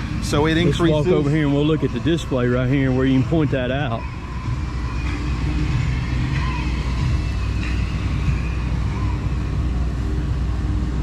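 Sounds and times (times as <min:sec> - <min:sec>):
heavy equipment engines rumbling: 0:00.0 - 0:11.0.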